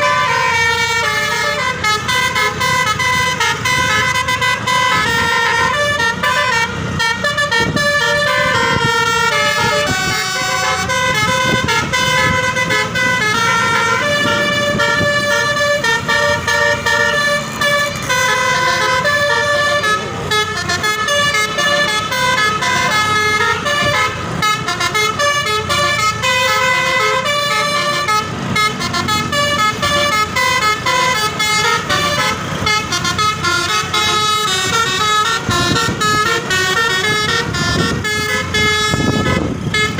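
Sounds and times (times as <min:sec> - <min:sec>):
bus horn playing a melody: 0:00.0 - 0:39.9.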